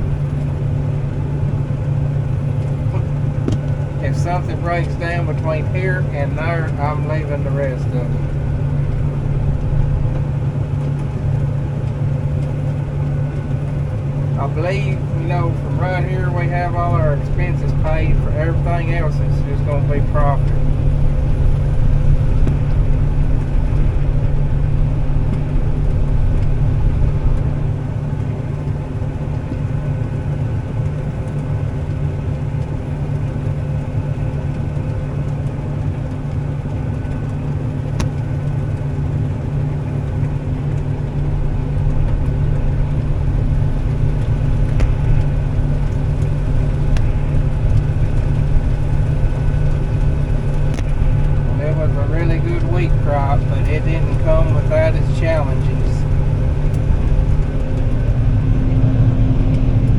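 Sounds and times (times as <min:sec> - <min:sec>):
road noise: 0:00.0 - 0:59.9
truck engine running: 0:00.0 - 0:59.9.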